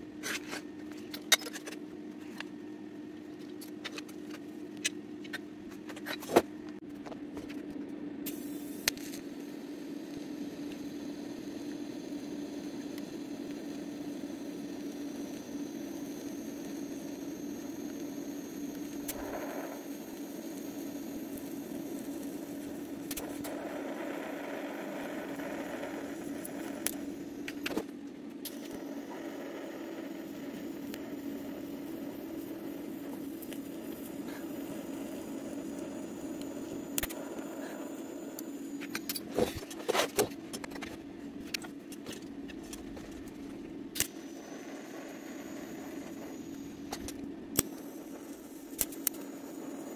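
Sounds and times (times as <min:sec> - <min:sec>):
welding arc buzzing hum: 0:00.0 - 0:49.9.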